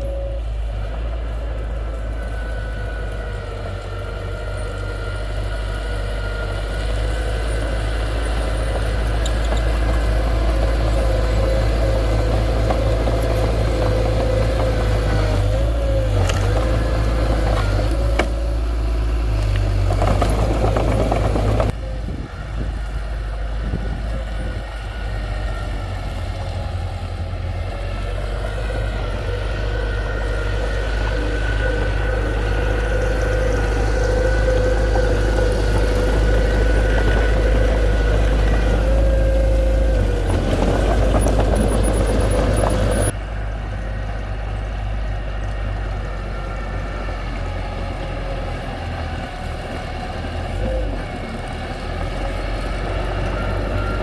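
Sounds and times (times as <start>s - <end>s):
constant machine whine: 0.0s - 54.0s
diesel engine running: 0.0s - 54.0s.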